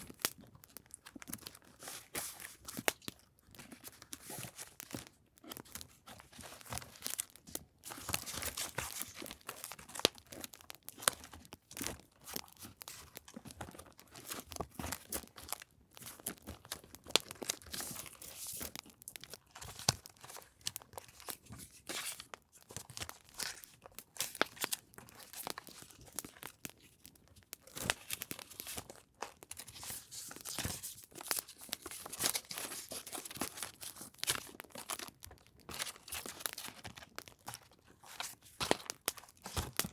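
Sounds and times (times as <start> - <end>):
paper and packaging rustling: 0.0 - 39.9.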